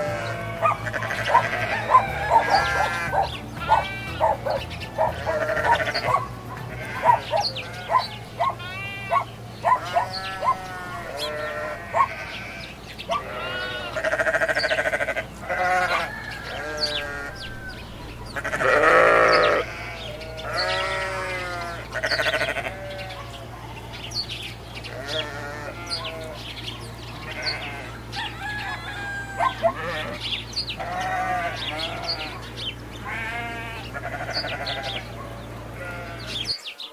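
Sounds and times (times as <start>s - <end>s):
animal bleating calls: 0.0s - 24.1s, 24.7s - 36.6s.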